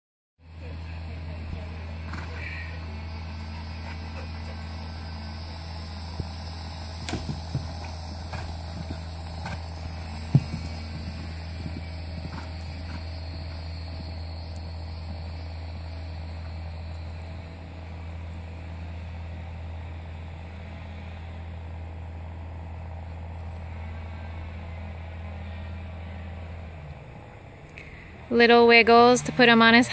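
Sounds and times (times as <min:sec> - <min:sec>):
vehicle engine idling: 0:00.4 - 0:29.9.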